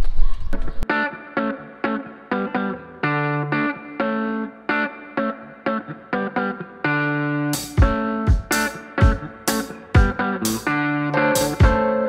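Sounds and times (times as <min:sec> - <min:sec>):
electric guitar chord stabs: 0:00.8 - 0:12.0.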